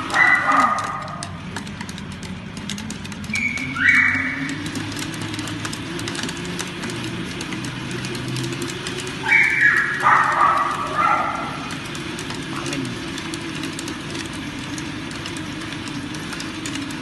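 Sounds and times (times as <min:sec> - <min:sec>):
treadmill slats clicking and rumbling: 0:00.0 - 0:17.0.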